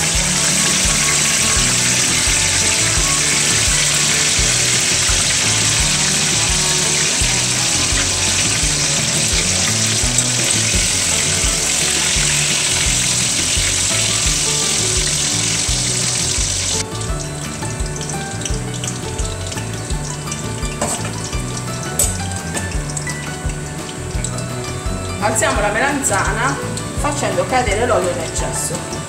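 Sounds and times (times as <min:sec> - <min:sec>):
background music with bass beat: 0:00.0 - 0:29.0
eggplant sizzling in hot oil: 0:00.0 - 0:29.0.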